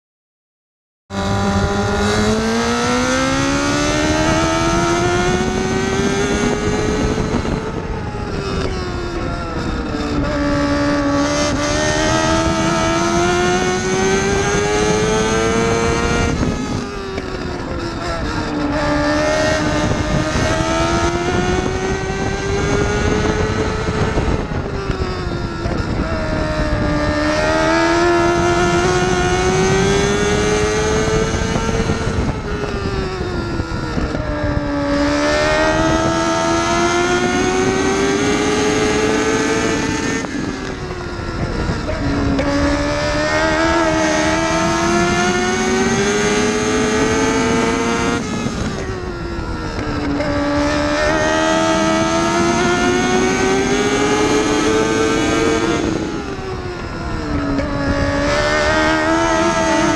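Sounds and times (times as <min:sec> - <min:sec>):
race car engine: 0:01.1 - 0:59.9.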